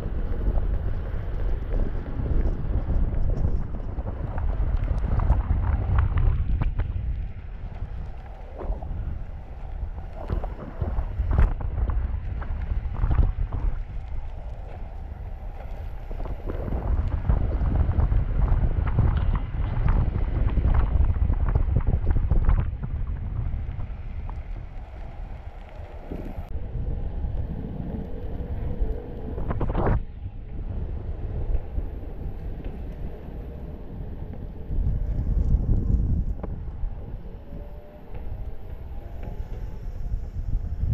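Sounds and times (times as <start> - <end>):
tyre rumble over pavement: 0.0 - 40.9
wind buffeting microphone: 0.0 - 40.9.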